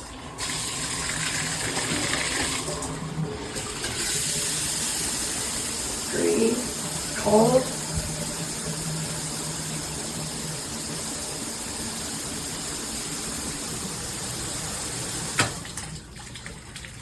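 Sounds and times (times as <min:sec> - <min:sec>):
shower head spraying water: 0:00.4 - 0:15.7.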